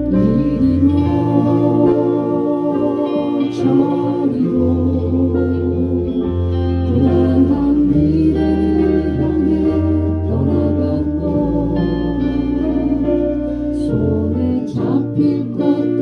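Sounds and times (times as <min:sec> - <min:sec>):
group singing: 0:00.0 - 0:16.0
held bass line: 0:00.0 - 0:16.0
keyboard playing organ tones: 0:00.0 - 0:16.0.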